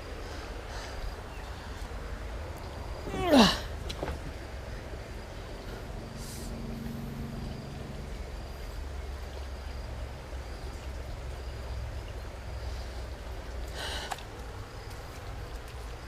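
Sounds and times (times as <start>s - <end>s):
creek water running over rapids: 0.0s - 16.0s.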